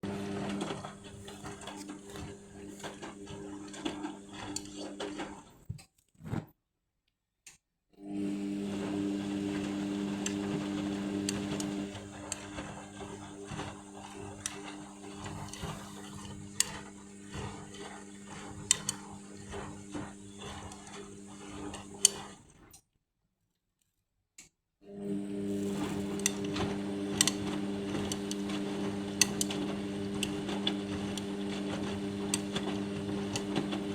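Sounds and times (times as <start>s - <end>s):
washing machine motor humming: 0.0s - 5.6s, 8.0s - 22.6s, 24.9s - 33.9s.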